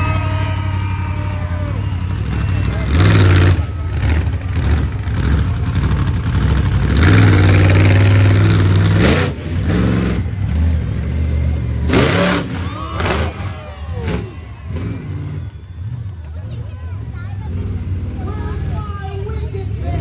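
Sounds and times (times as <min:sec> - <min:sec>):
vehicle engine revving: 0:01.2 - 0:20.0.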